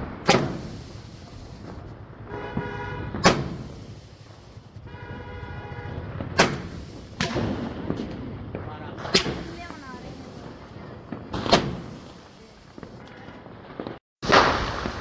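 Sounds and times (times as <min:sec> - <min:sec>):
firecracker bangs: 0:00.0 - 0:15.0.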